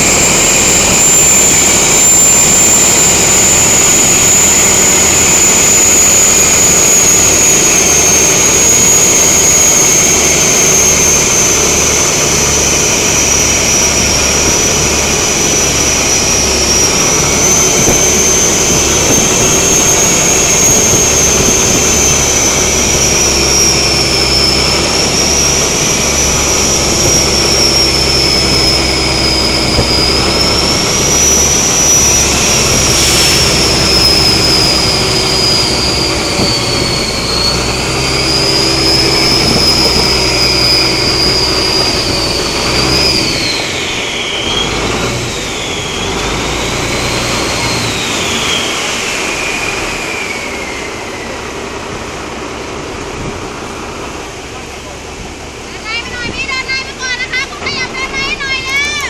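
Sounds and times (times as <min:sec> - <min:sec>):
boat engine running: 0:00.0 - 0:59.0
high whine: 0:00.0 - 0:59.0
water rushing from hull: 0:00.0 - 0:59.0.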